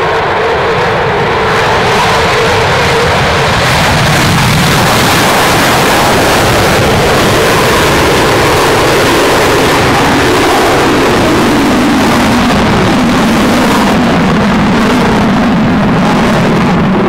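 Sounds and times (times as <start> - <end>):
jet engines in afterburner: 0.0 - 17.0.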